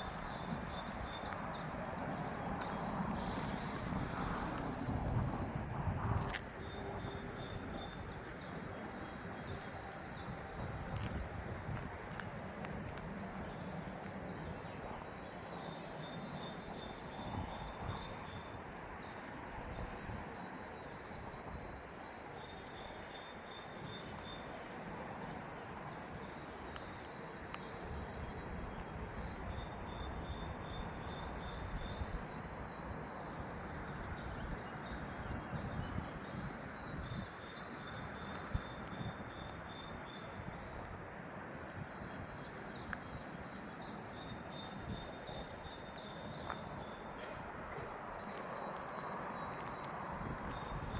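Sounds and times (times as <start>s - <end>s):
outdoor background hum: 0.0s - 50.9s.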